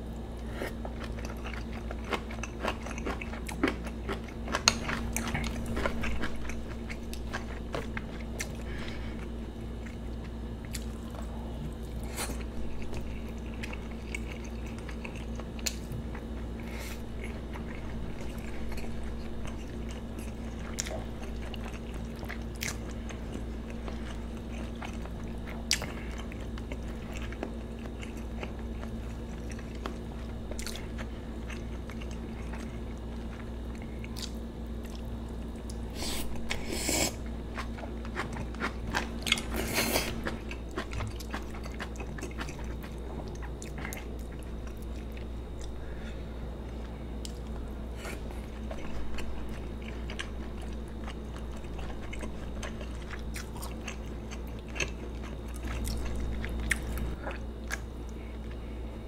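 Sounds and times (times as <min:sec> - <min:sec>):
steady low hum: 0:00.0 - 0:59.0
chewing and mouth sounds: 0:00.1 - 0:58.8.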